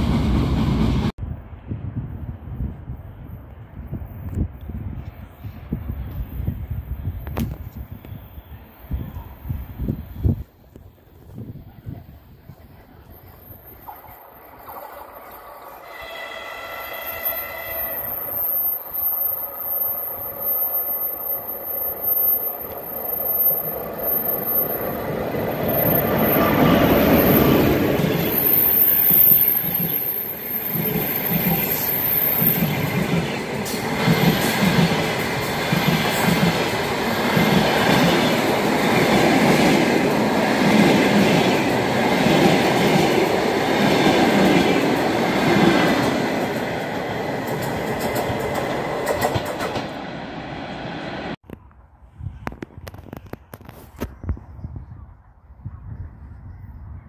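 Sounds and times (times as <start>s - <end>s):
passenger train passing: 0.0s - 7.7s, 8.4s - 51.4s.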